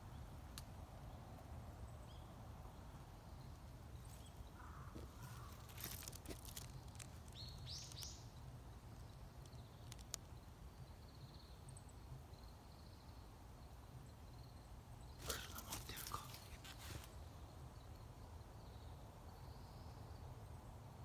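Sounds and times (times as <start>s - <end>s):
faint low wind rumble: 0.0s - 21.0s
bird chirping: 1.9s - 20.1s.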